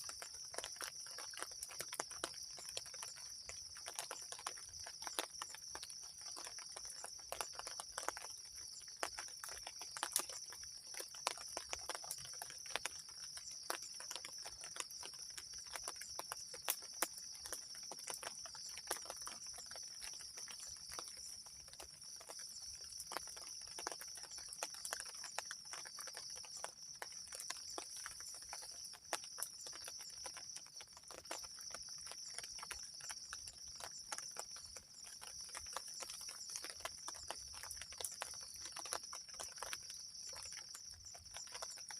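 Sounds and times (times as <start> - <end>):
raindrops tapping on shelter: 0.0 - 41.9.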